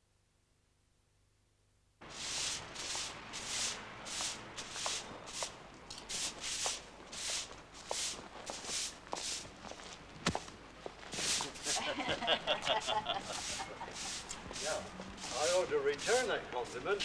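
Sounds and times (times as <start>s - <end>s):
broom sweeping pavement: 2.0s - 17.0s.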